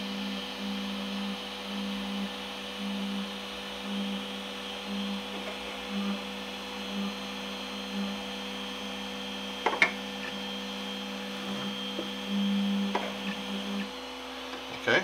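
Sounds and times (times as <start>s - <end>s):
electrical hum of printer: 0.0s - 15.0s.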